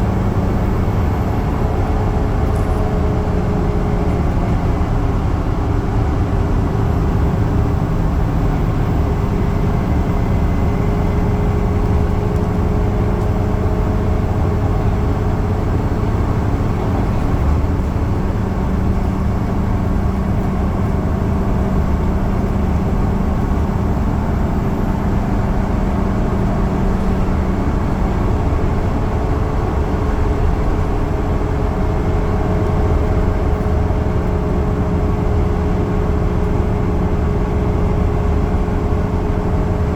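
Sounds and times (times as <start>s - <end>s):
bus engine drone: 0.0s - 39.9s
constant low hum: 0.0s - 39.9s
road noise: 0.0s - 39.9s.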